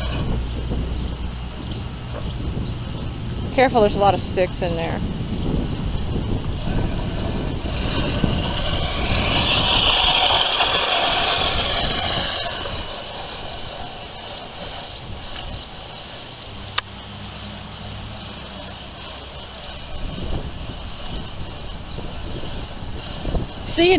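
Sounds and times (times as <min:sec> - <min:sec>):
push reel lawnmower whirring: 0:00.0 - 0:03.2, 0:05.4 - 0:23.9.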